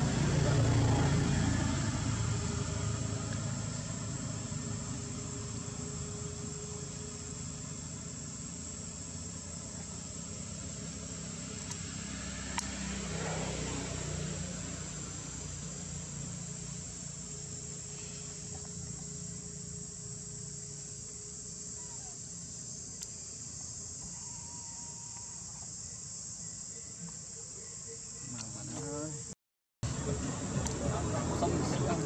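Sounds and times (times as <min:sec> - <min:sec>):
high-pitched insect drone: 0:00.1 - 0:32.0.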